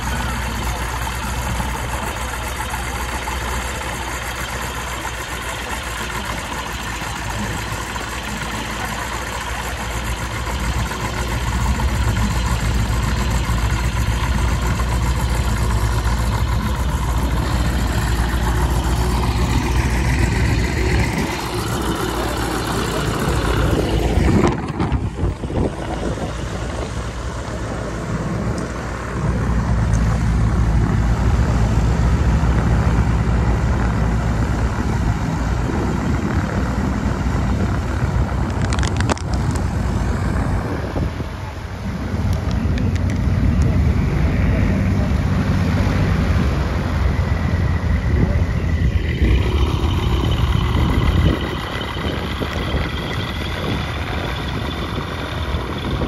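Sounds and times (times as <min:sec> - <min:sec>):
aircraft engine idling: 0:00.0 - 0:56.0.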